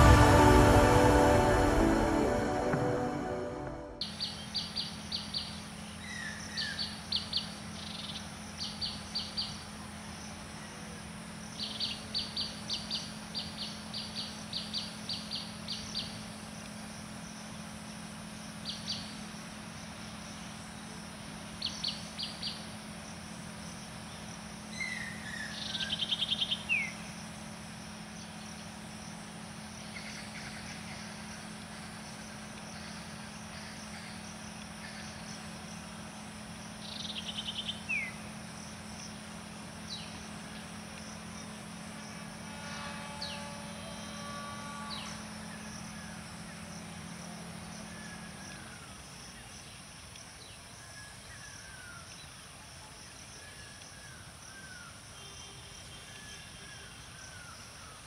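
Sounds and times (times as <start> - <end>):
steady low hum: 0.0 - 52.5.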